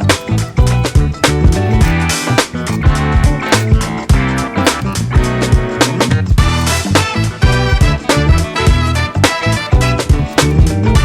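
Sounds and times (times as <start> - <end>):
funk music with bass and drums: 0.0 - 11.0.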